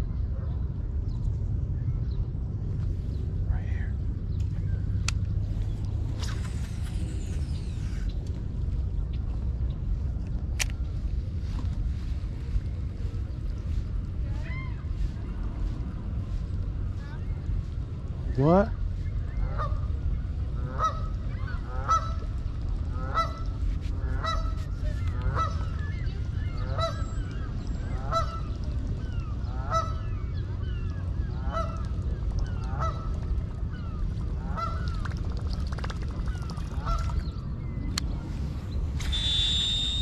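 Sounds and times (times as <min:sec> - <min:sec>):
low background rumble: 0:00.0 - 0:40.0.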